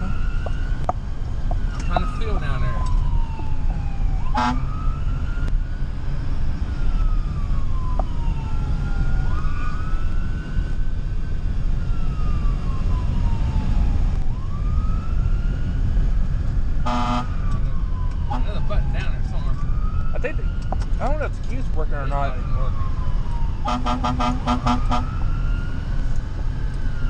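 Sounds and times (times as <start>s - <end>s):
engine and road rumble: 0.0s - 27.0s
fire engine siren wailing: 0.0s - 27.0s.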